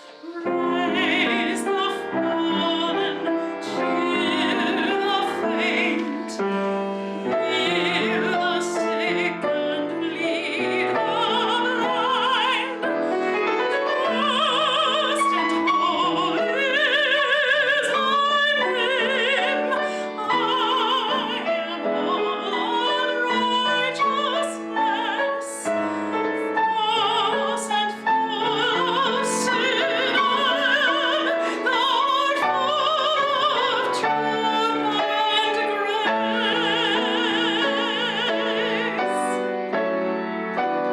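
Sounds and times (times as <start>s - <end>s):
piano accompaniment: 0.0s - 40.9s.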